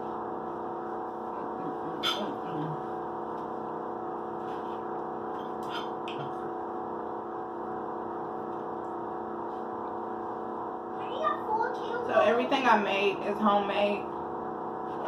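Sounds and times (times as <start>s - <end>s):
steady appliance hum: 0.0s - 15.0s.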